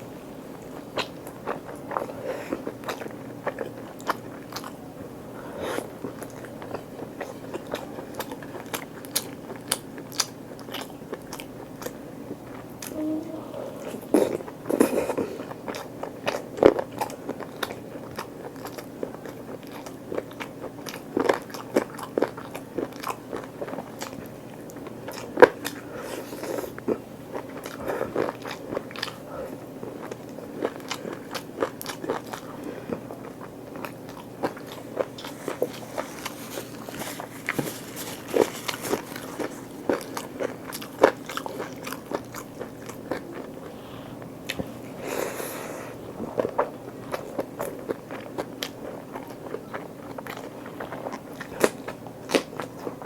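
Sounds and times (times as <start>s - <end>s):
person chewing crunchy food: 0.5s - 13.0s, 13.8s - 53.0s.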